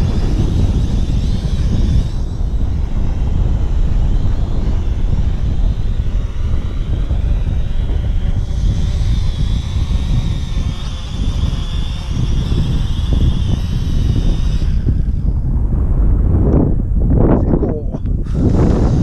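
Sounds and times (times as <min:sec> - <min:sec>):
drone propellers whining: 0:00.0 - 0:19.0
wind buffeting microphone: 0:00.0 - 0:19.0.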